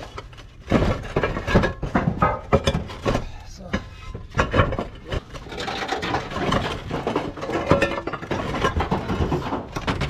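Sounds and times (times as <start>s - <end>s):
roof tiles clattering and scraping: 0.0s - 10.0s.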